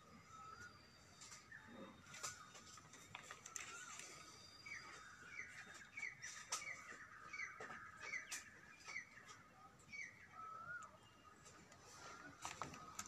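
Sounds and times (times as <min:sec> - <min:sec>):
small bird chirping: 0:00.2 - 0:12.9.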